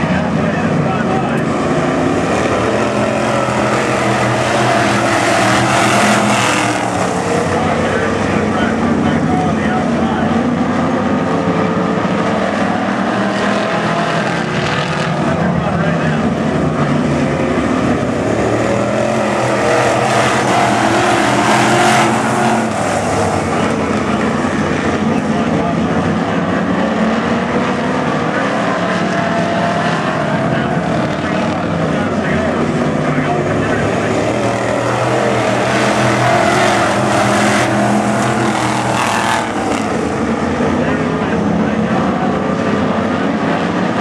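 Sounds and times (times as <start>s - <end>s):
race car engines: 0.0s - 44.0s.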